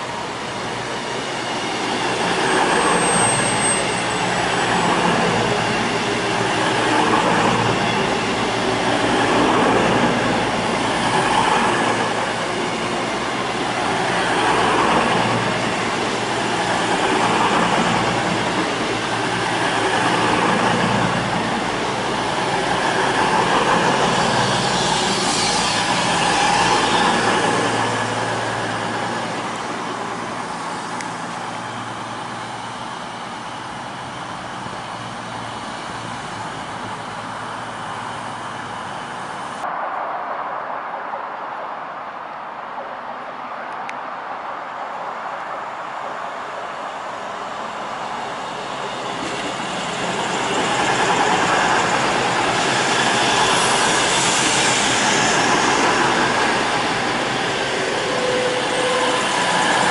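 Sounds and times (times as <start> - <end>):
train wheels rumbling on rail: 0.0 - 39.7, 46.3 - 59.9.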